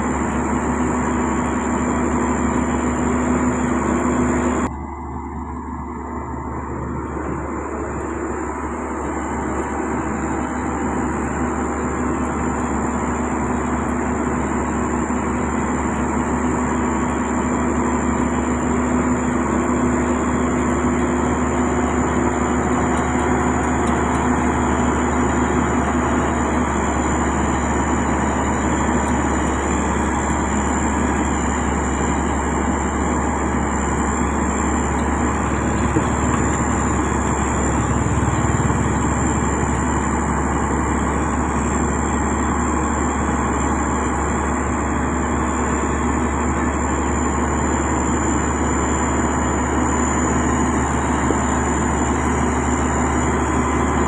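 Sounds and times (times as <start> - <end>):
diesel engine drone: 0.0 - 54.0
high-pitched machinery whine: 0.0 - 54.0.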